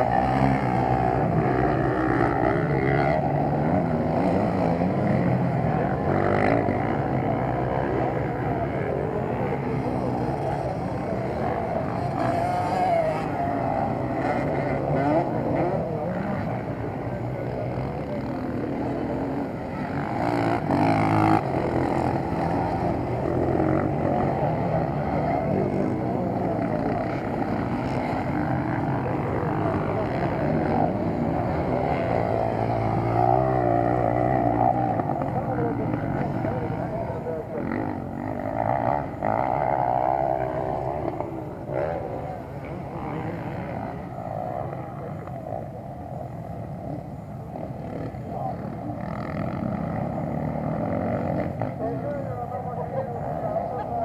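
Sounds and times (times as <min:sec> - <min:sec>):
motocross motorcycle engines: 0:00.0 - 0:54.0.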